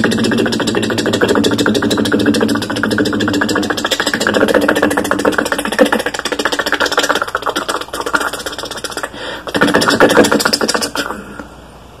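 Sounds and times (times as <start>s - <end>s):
helicopter rotor chop: 0.0s - 10.8s.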